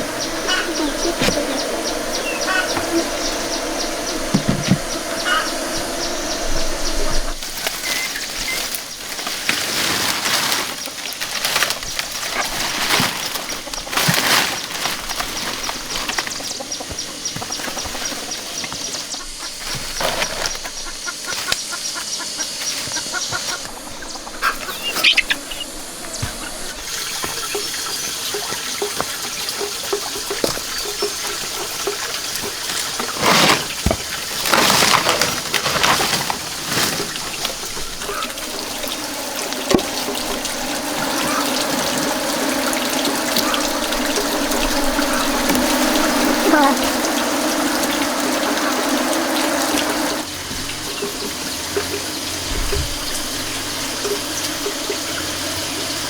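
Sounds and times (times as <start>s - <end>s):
rush of water: 0.0s - 20.2s, 22.6s - 56.0s
water running and splashing: 0.0s - 56.0s.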